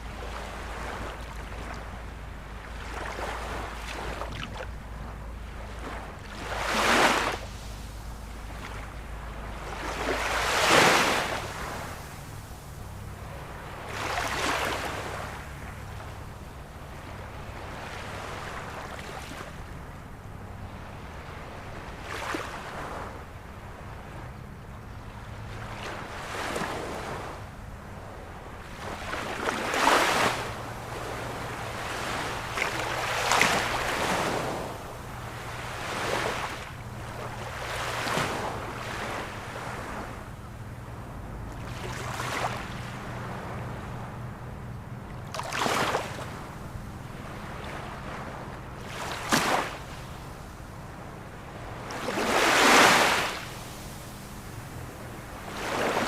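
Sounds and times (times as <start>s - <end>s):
low steady hum: 0.0s - 56.0s
ocean waves breaking: 0.0s - 56.0s.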